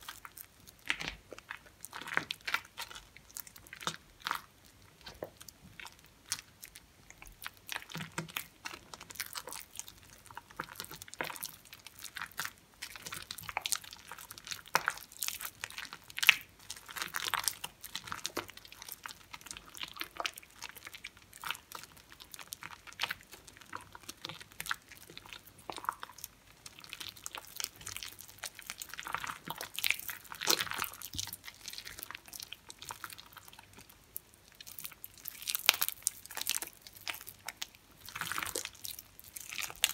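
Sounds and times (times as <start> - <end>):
wet squishing soap mush: 0.0 - 39.9.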